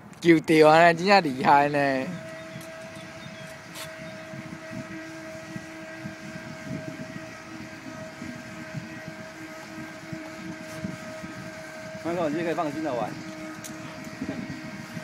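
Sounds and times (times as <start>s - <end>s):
rc boat motor whine: 0.0s - 15.0s
wind rumble on microphone: 0.7s - 15.0s.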